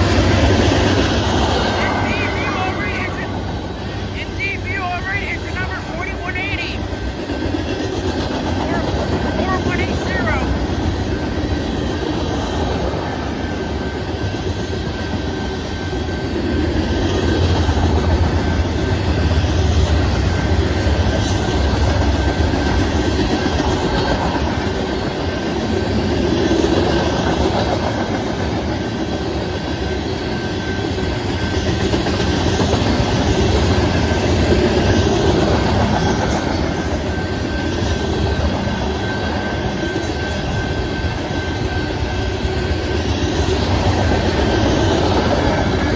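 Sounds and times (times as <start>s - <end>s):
freight train rumbling past: 0.0s - 45.9s
high tone from train wheels: 0.0s - 45.9s.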